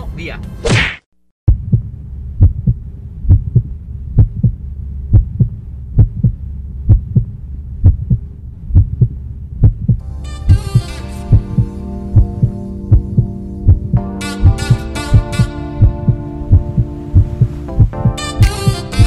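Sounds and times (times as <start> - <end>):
heartbeat thumps: 1.5 - 19.0
low steady drone: 1.5 - 19.0.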